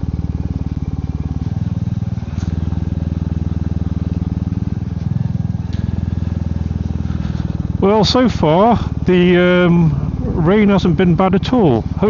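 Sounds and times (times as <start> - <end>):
motorcycle engine thumping: 0.0 - 12.0.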